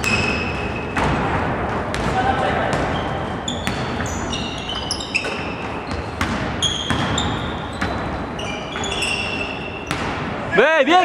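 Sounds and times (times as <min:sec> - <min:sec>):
sneakers squeaking on court: 0:00.0 - 0:01.3, 0:01.9 - 0:10.4
basketball bouncing: 0:00.0 - 0:10.4.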